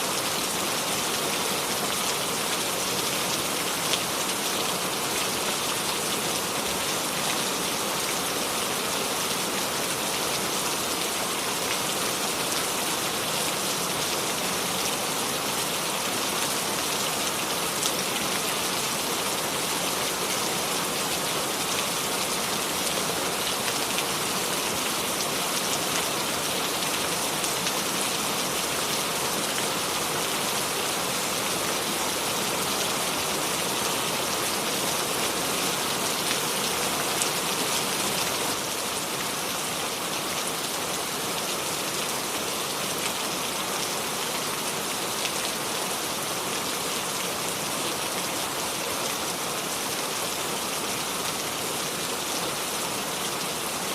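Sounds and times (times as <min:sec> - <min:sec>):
steady rain patter: 0:00.0 - 0:53.9.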